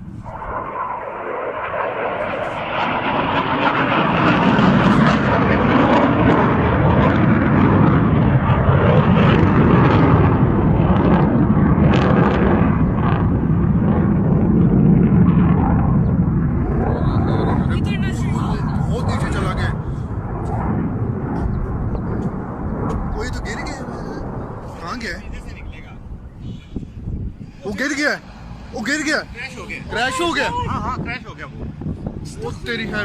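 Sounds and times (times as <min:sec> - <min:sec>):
jet flying overhead: 0:00.0 - 0:33.0.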